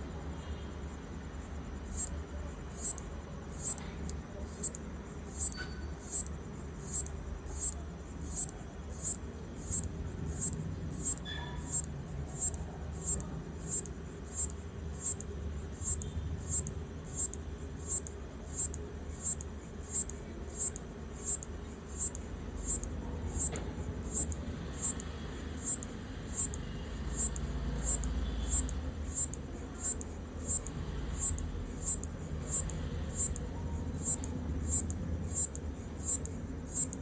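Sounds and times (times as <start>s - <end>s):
locust chirping: 1.9s - 2.1s, 2.8s - 3.8s, 4.5s - 15.2s, 15.8s - 33.4s, 34.0s - 37.0s.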